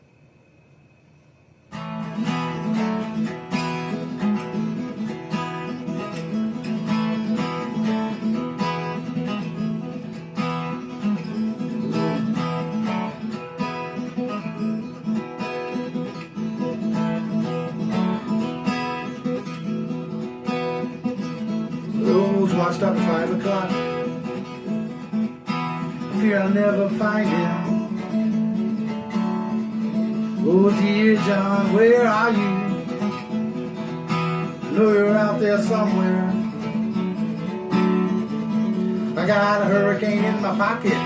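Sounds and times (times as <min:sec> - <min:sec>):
acoustic guitar strumming: 0:01.6 - 0:41.0.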